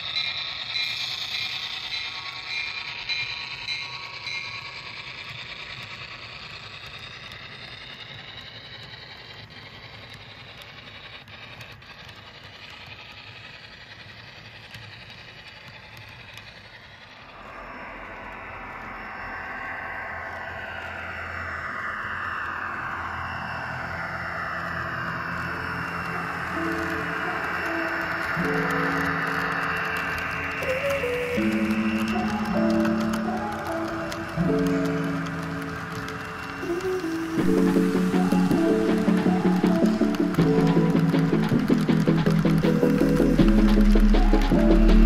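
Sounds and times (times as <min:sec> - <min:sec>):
wheel clicks on track: 0:00.0 - 0:17.4, 0:22.3 - 0:45.0
model trains rumbling on track: 0:00.0 - 0:45.0.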